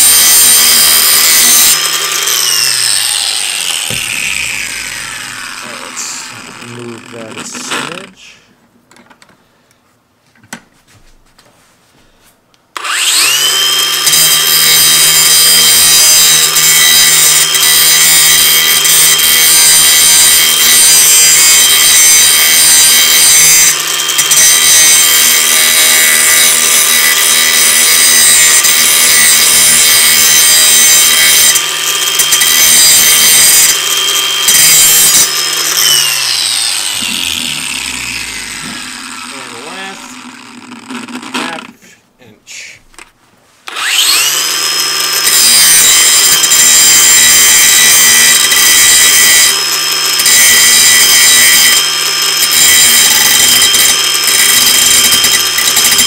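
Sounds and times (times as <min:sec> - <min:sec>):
angle grinder whining: 0:00.0 - 0:08.4, 0:12.8 - 0:41.9, 0:43.7 - 0:56.0
grinder grinding steel blade: 0:00.0 - 0:08.4, 0:12.8 - 0:41.8, 0:43.7 - 0:56.0.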